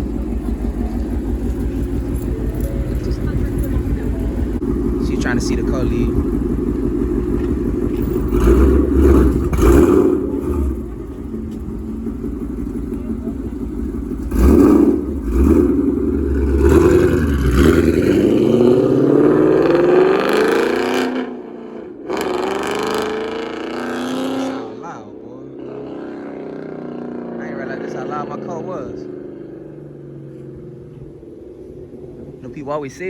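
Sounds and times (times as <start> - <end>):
car exhaust revving: 0.0 - 33.0.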